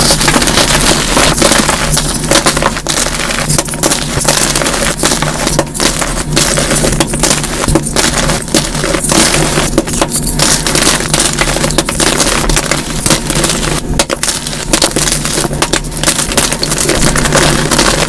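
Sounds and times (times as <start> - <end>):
hands crushing chalk: 0.0 - 18.0.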